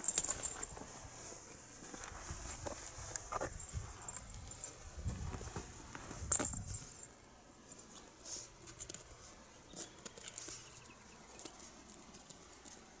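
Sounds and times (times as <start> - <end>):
kittens' paws scuffing asphalt: 0.0 - 13.0.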